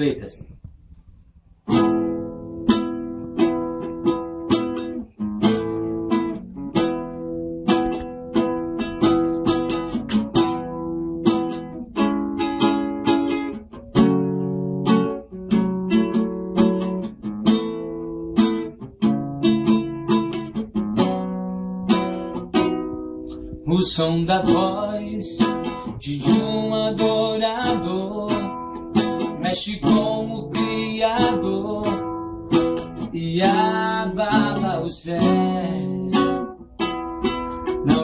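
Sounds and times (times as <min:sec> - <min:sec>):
acoustic guitar strummed chords: 0:01.6 - 0:38.0.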